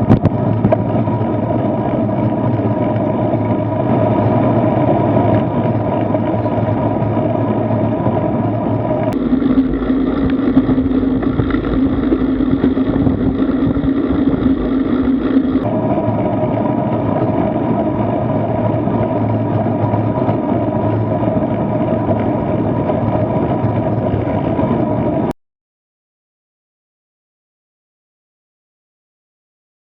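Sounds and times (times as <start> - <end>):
wind and road noise rumble: 0.0 - 25.3.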